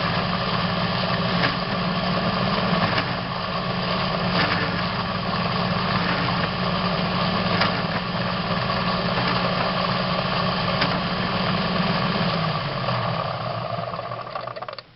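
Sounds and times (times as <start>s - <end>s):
machine motor hum: 0.0s - 14.9s.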